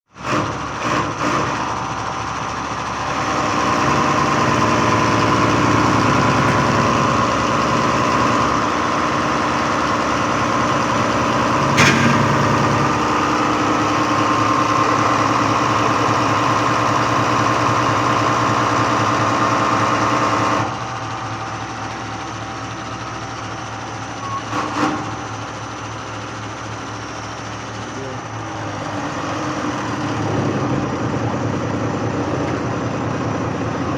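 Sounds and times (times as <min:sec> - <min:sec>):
diesel pump running: 0:00.1 - 0:33.9.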